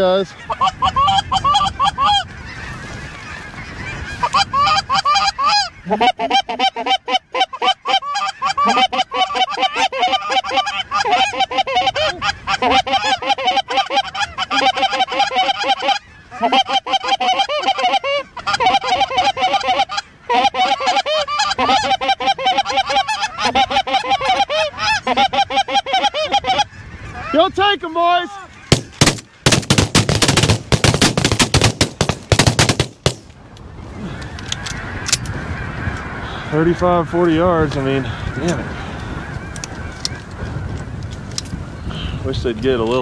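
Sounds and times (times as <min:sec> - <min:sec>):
geese honking: 0:00.0 - 0:33.0, 0:33.8 - 0:40.8.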